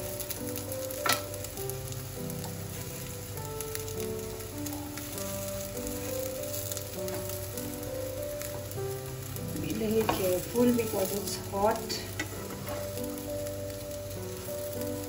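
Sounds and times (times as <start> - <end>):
patties sizzling in oil: 0.0 - 15.0.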